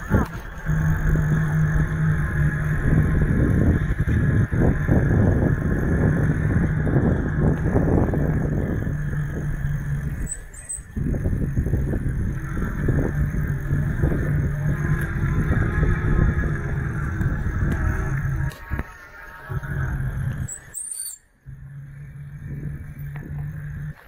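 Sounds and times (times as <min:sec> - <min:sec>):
wind noise on microphone: 0:00.0 - 0:20.8, 0:21.5 - 0:24.0
steady low hum: 0:00.0 - 0:24.0.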